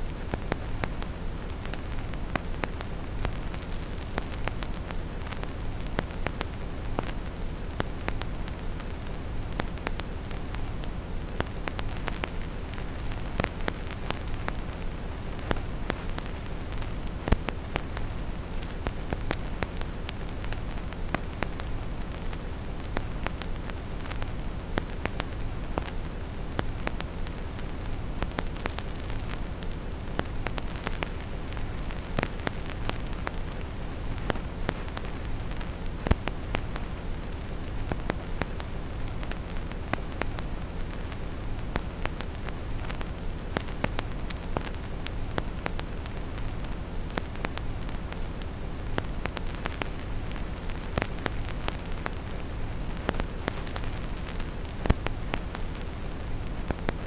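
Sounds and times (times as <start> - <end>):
deep brown noise: 0.0 - 57.0
vinyl record crackle: 0.0 - 57.0.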